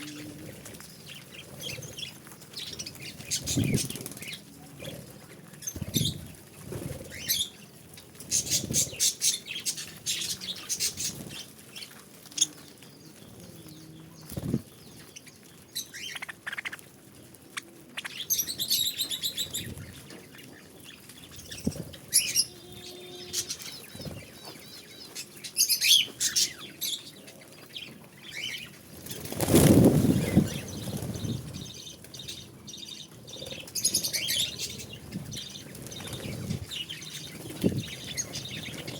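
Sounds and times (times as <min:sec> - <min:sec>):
wings fluttering: 0:00.0 - 0:22.5, 0:23.2 - 0:26.9, 0:28.1 - 0:32.5, 0:33.2 - 0:38.9.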